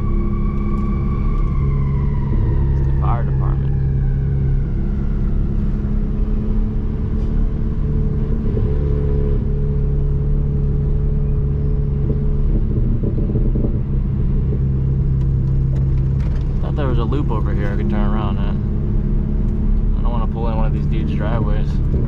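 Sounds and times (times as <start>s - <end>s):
car engine cruising drone: 0.0s - 22.0s
road rumble: 0.0s - 22.0s.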